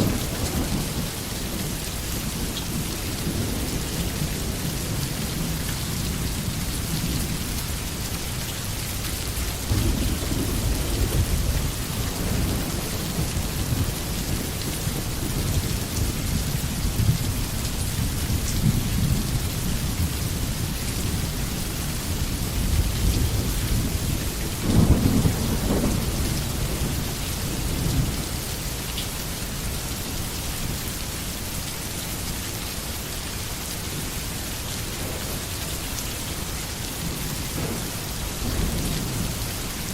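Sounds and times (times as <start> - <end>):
low rumble of thunder: 0.0 - 31.1, 33.9 - 39.9
steady rain falling: 0.0 - 39.9.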